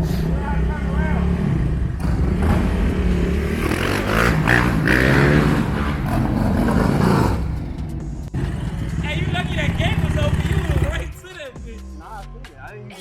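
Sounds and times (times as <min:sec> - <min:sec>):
dirt bike engine revving: 0:00.6 - 0:11.1.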